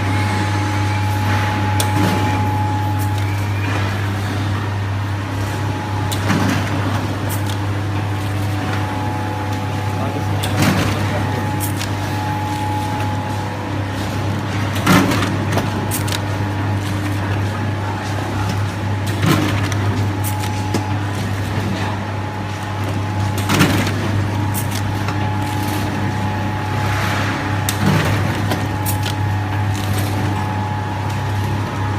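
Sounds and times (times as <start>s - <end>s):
machine motor hum: 0.0s - 31.9s.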